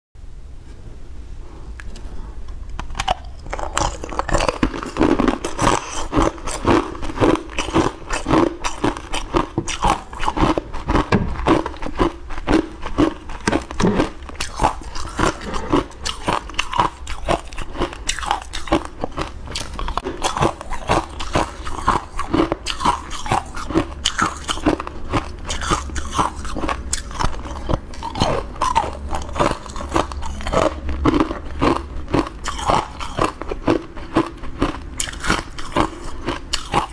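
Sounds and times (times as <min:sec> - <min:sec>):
chewing ice cubes: 0:02.7 - 0:36.9.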